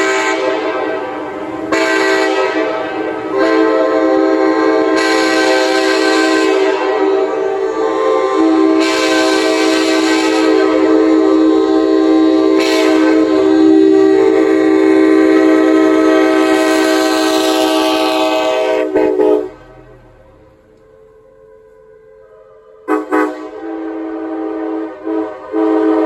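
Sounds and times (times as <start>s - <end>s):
loud train horn chord: 0.0s - 21.8s, 22.8s - 26.0s.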